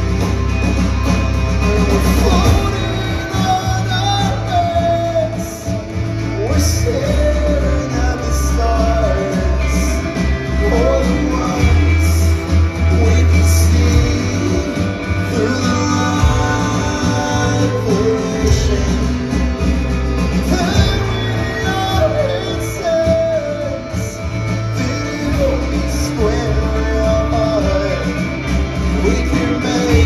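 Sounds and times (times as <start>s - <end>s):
live rock band playing: 0.0s - 30.0s
wordless singing: 0.0s - 30.0s.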